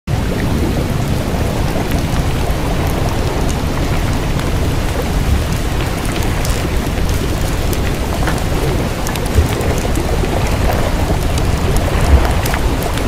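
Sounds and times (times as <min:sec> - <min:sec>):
steady rain: 0:00.1 - 0:13.0.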